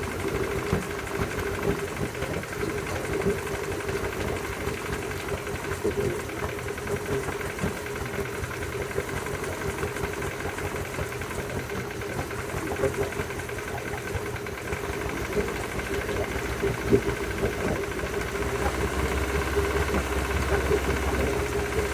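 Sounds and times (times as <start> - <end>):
outboard engine knocking: 0.0 - 21.9.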